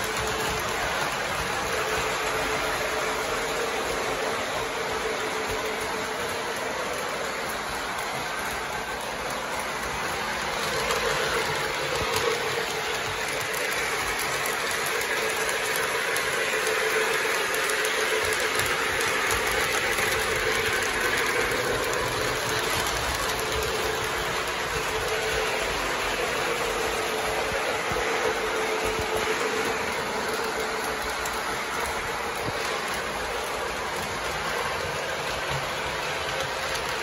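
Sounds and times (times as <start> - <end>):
model train steam sounds: 0.0 - 37.0
model train wheels and motor: 0.0 - 37.0.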